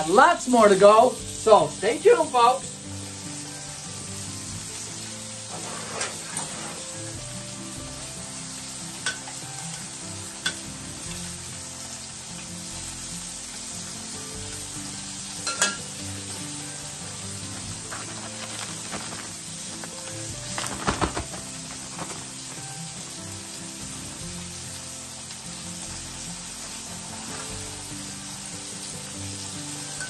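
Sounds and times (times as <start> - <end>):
fish frying in oil: 0.0 - 30.0.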